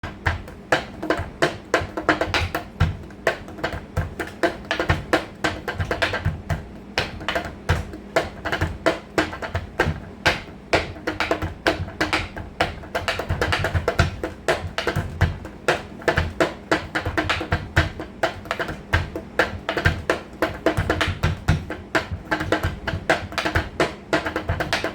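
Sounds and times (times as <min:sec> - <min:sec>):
drumming on household objects: 0:00.0 - 0:24.9.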